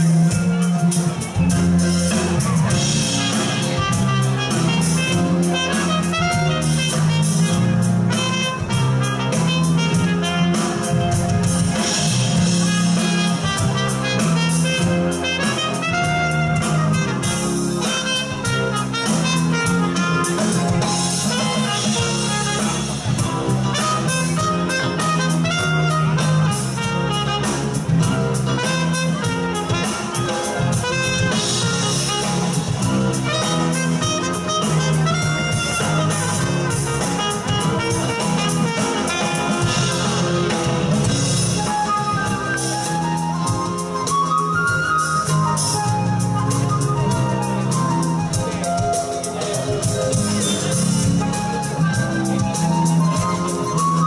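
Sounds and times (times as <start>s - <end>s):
live band playing: 0.0s - 54.0s
trumpet lead: 0.0s - 54.0s.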